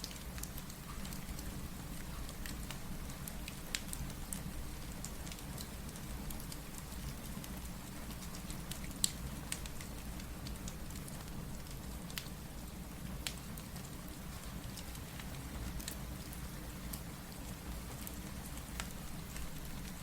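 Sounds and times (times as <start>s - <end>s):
fireplace crackling: 0.0s - 20.0s
steady rain: 0.0s - 20.0s.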